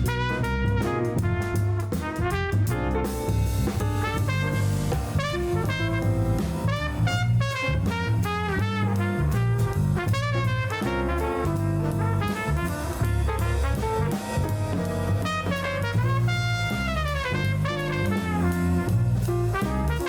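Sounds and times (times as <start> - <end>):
bass: 0.0 - 20.0
brass horns: 0.0 - 20.0
drum kit: 0.0 - 20.0.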